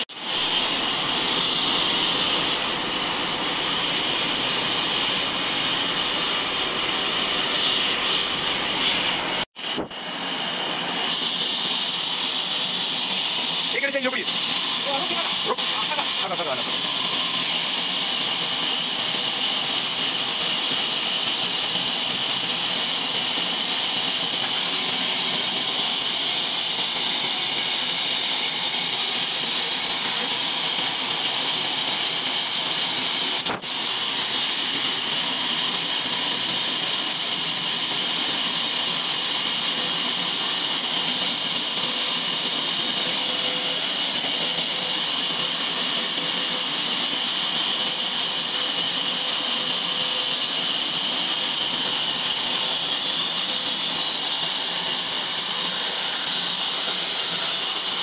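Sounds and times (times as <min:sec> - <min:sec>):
band sawmill running: 0:00.0 - 0:58.0.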